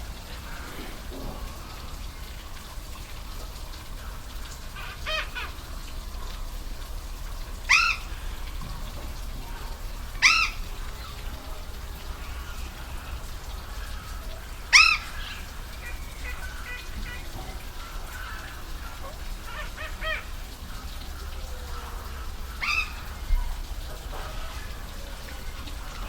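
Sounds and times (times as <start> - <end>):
bird calling: 0.0 - 6.0, 7.6 - 26.0
waterfall rushing: 0.0 - 26.0.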